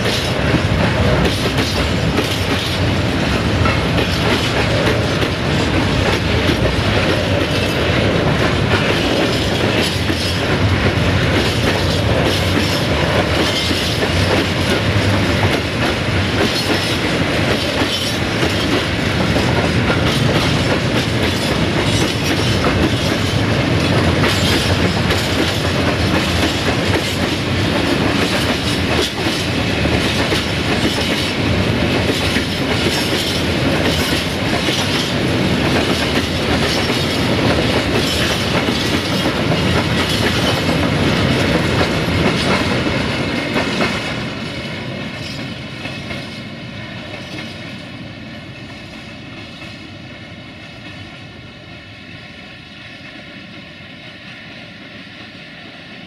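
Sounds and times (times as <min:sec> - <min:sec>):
train wheels clicking on rail joints: 0:00.0 - 0:51.3.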